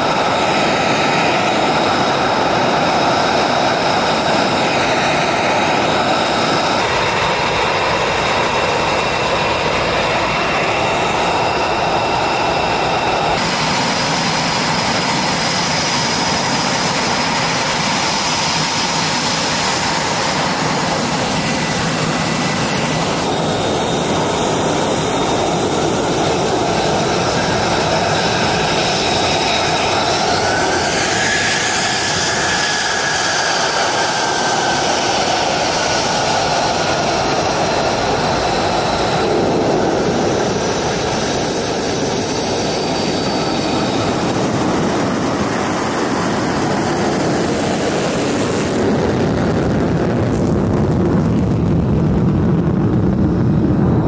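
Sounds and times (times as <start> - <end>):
jet engine turbine roar: 0.0 - 54.0
jet engine whine: 0.0 - 54.0.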